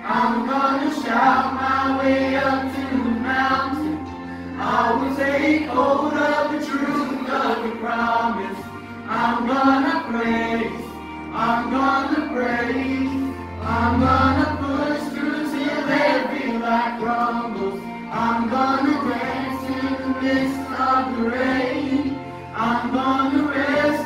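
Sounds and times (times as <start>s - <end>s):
choir singing worship song: 0.0s - 24.0s
low bass accompaniment: 1.2s - 24.0s.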